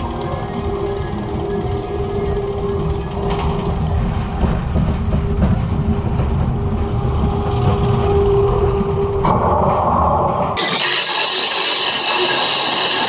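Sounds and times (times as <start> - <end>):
steady humming tone: 0.0 - 10.8
roller coaster rumbling on track: 0.0 - 12.7.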